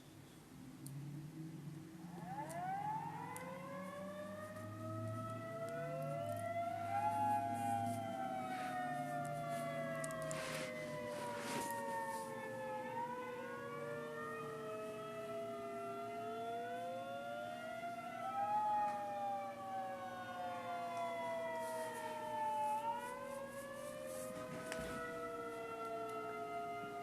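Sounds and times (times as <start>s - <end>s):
tornado siren slow wail: 1.0s - 27.0s.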